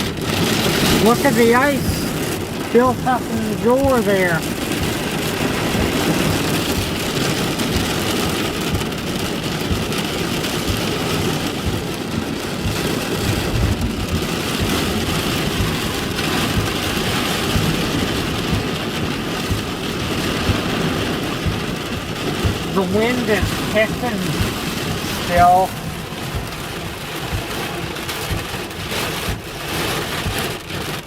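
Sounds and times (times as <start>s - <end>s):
heavy rain on car: 0.0s - 31.0s.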